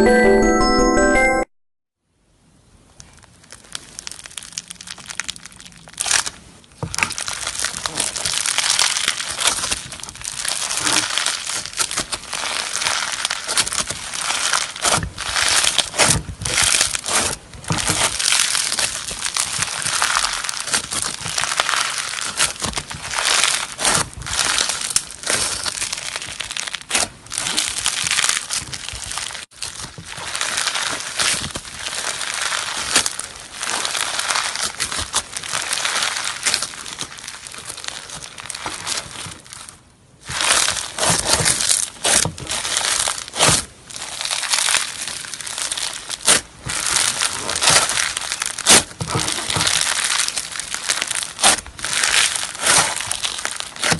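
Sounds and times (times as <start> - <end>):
crunchy slime crackling: 3.0 - 53.9.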